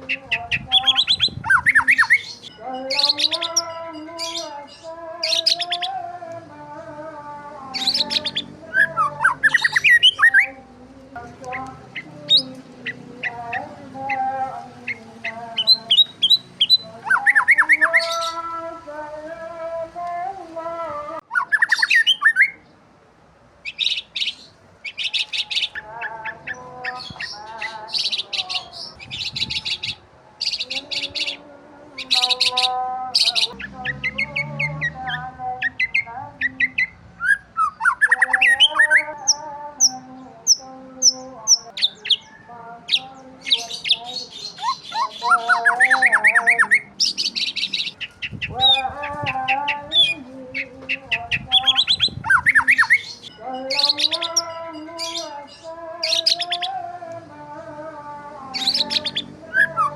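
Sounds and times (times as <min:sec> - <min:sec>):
birds chirping and calling: 0:00.0 - 0:22.8, 0:23.6 - 0:59.9.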